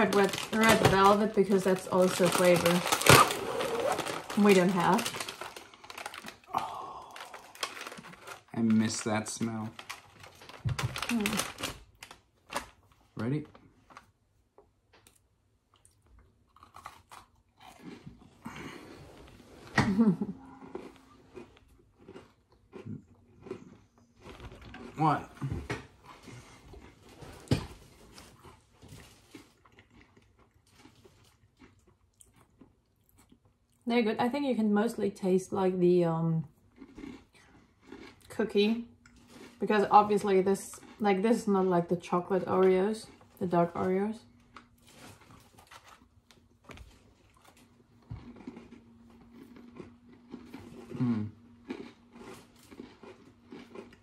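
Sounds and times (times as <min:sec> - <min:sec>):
cookie crunch: 0:00.0 - 0:18.8, 0:19.8 - 0:34.0, 0:36.4 - 0:54.0
soft crackly chewing: 0:00.0 - 0:33.9, 0:36.4 - 0:41.6, 0:42.6 - 0:54.0.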